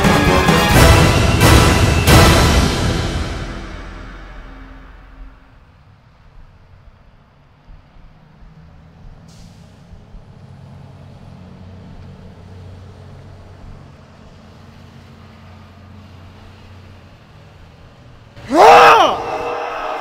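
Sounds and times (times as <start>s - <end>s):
road noise: 0.0s - 20.0s
vehicle engine humming: 0.0s - 20.0s.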